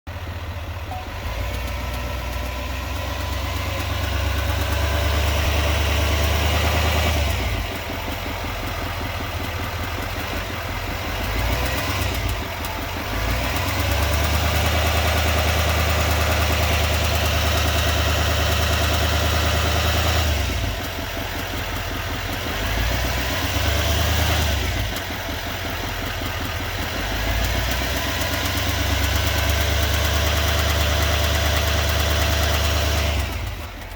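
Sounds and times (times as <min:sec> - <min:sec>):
diesel engine running: 0:00.1 - 0:33.9
fast even engine ticking: 0:00.1 - 0:33.9.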